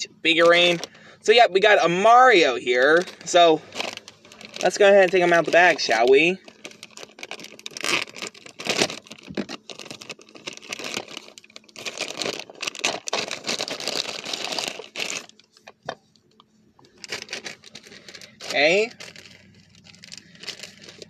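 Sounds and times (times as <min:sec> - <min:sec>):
plastic bag crinkling: 0:00.3 - 0:21.0.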